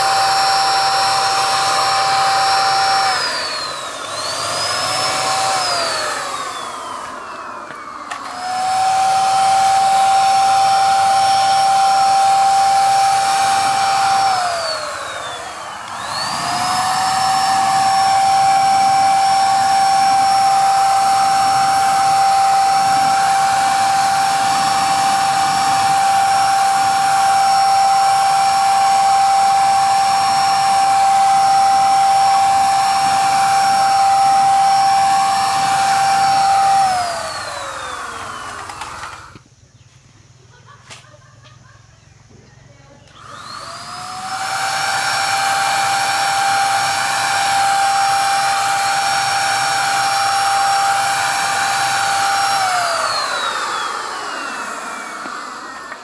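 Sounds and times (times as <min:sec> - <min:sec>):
motor spinning down: 0:00.0 - 0:39.5, 0:43.0 - 0:56.0
electric paint spray gun whining: 0:00.0 - 0:39.6, 0:43.0 - 0:56.0.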